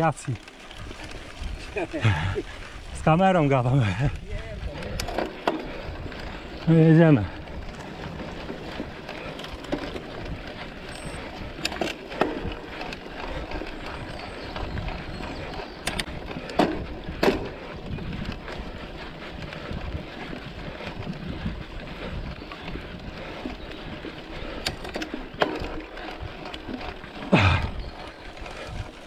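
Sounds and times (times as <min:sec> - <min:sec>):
bike rattling: 0:00.0 - 0:29.0
tyres rolling on dirt trail: 0:00.0 - 0:29.0.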